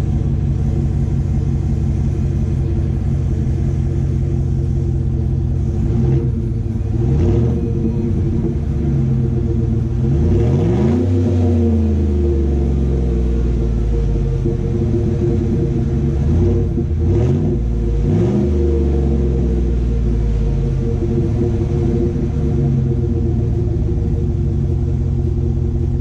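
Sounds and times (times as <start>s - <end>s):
deep exhaust rumble: 0.0s - 26.0s.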